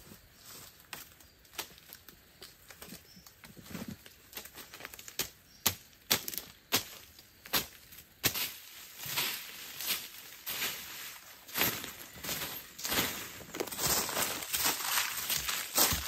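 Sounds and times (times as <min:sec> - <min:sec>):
scraping soil and dry leaves: 0:00.0 - 0:16.0.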